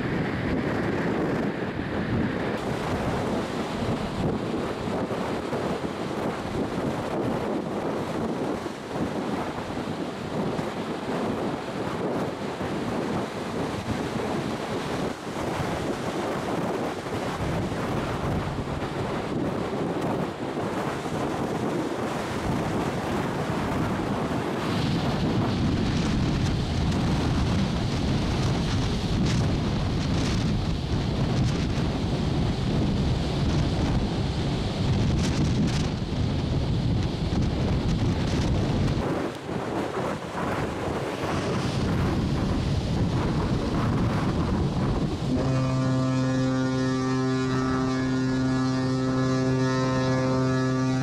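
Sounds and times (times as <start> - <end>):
rush of the sea: 0.0 - 51.0
wind buffeting microphone: 0.0 - 51.0.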